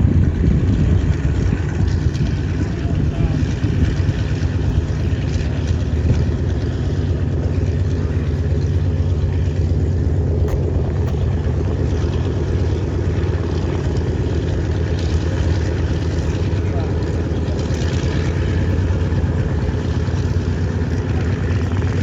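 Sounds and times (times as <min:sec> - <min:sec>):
aircraft engines droning: 0:00.0 - 0:22.0.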